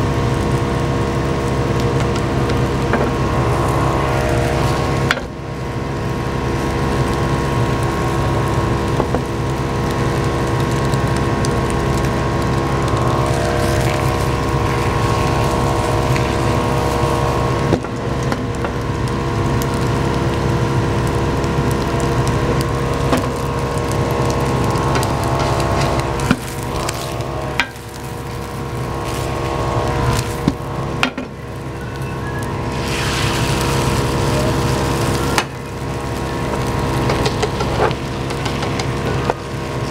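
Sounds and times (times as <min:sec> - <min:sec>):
exhaust fan whirring: 0:00.0 - 0:39.9.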